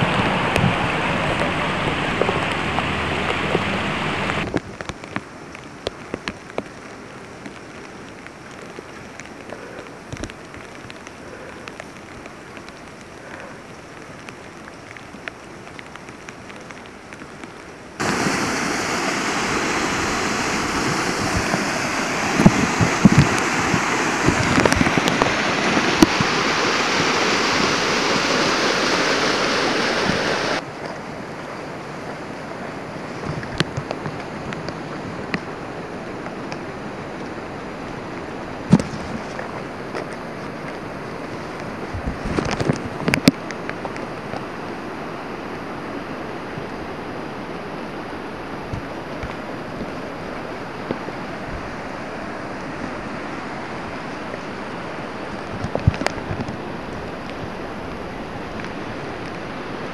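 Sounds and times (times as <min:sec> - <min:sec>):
raindrops ticking close by: 0:00.0 - 0:47.7, 0:48.4 - 0:59.9
loud rush of water: 0:00.0 - 0:59.9
steady rain: 0:00.0 - 0:59.9.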